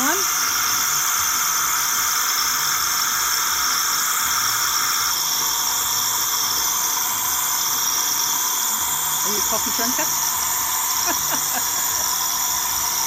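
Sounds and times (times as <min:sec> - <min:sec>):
coffee machine steaming milk: 0:00.0 - 0:13.0.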